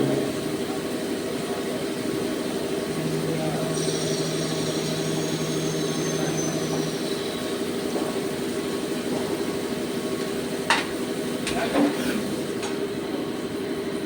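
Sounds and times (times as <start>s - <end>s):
turning machine humming: 0.0s - 14.0s.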